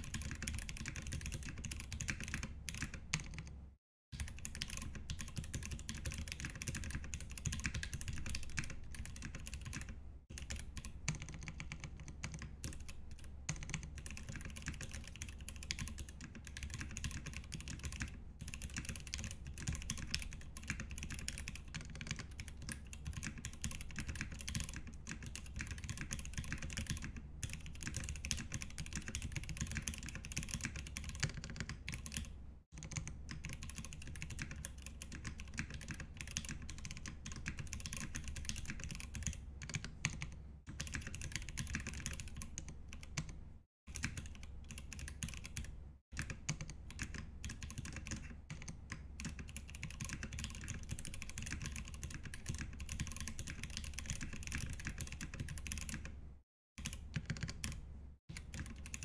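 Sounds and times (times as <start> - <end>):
fast typing on mechanical keyboard: 0.0 - 3.5, 4.2 - 56.2, 56.8 - 59.0.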